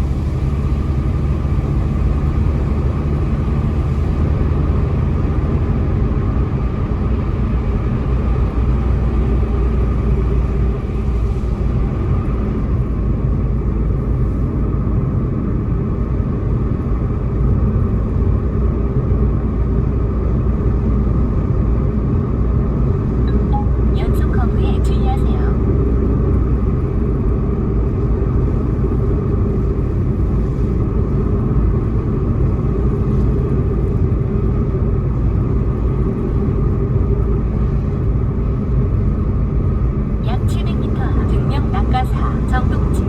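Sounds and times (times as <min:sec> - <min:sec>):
car engine rumble: 0:00.0 - 0:43.0
tyre road noise: 0:00.0 - 0:43.0.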